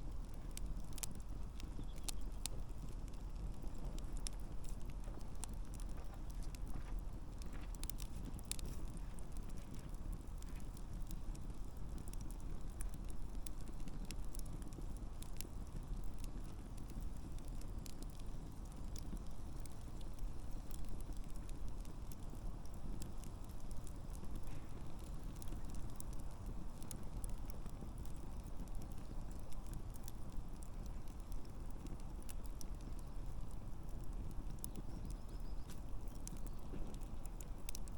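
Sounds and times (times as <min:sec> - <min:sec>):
burning logs crackling and popping: 0:00.0 - 0:37.9
low rush of flames: 0:00.0 - 0:37.9.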